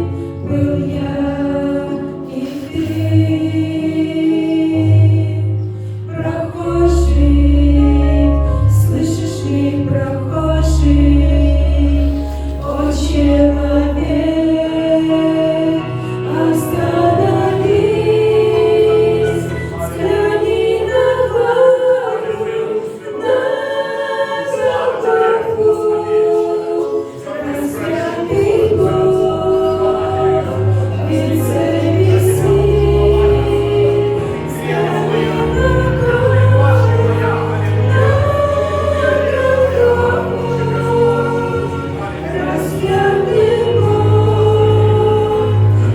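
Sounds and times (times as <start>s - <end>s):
choir singing a hymn: 0.0s - 45.9s.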